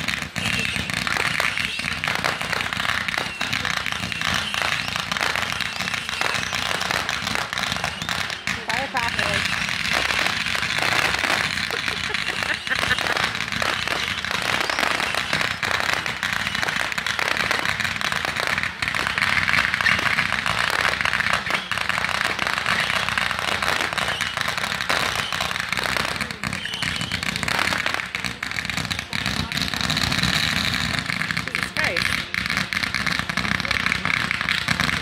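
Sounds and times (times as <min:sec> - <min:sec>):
fireworks crackling: 0:00.0 - 0:35.0.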